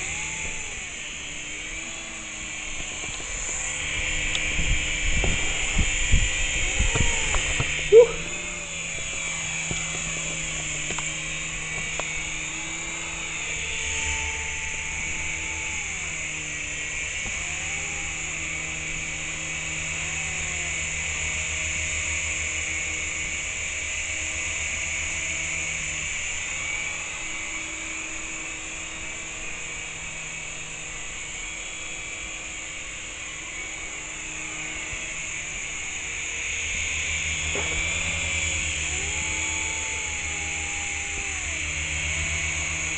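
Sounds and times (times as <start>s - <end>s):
rc helicopter rotors whining: 0.0s - 42.9s.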